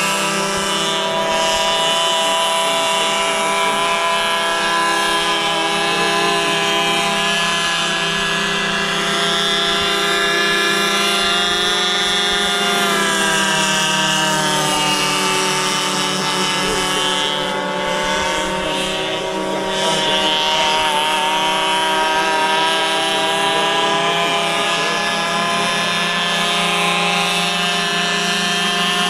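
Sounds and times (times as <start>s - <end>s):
model engine buzzing drone: 0.0s - 29.0s.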